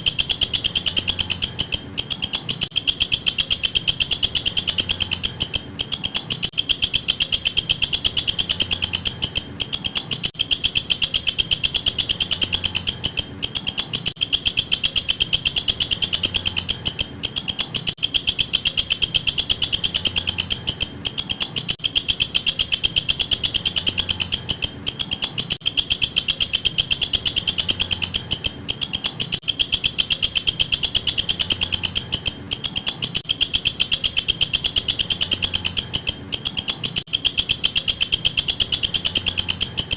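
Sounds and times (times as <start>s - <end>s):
katydid high-pitched trill: 0.0s - 39.9s.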